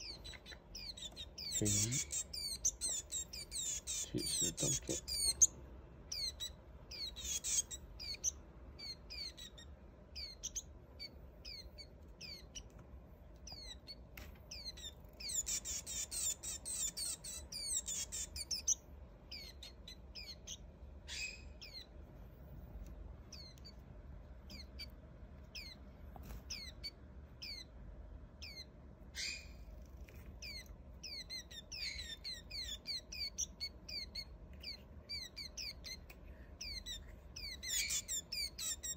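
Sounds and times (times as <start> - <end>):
young bird begging chirps: 0.0 - 5.5, 6.1 - 12.7, 13.4 - 21.9, 23.3 - 23.8, 25.5 - 25.8, 26.5 - 27.7, 28.4 - 29.6, 30.4 - 38.9.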